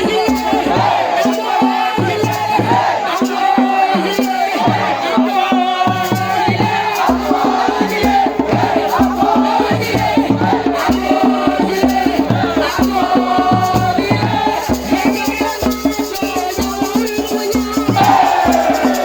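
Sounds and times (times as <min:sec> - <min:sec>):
driving drum beat: 0:00.0 - 0:19.0
many voices singing and chanting: 0:00.0 - 0:19.0.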